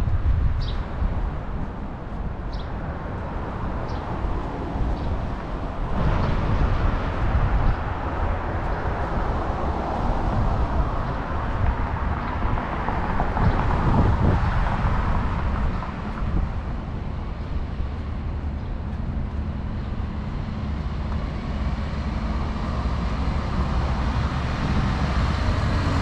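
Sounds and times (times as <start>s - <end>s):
cars driving past: 0.8s - 26.0s.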